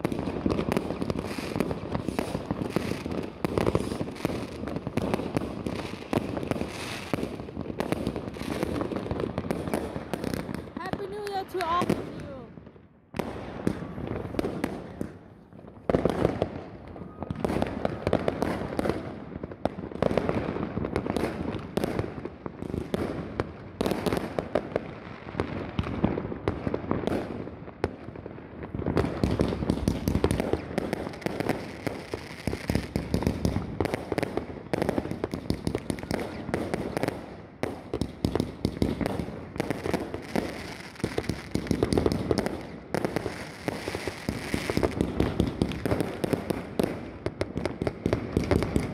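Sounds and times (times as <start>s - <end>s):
fireworks banging and crackling: 0.0s - 48.9s.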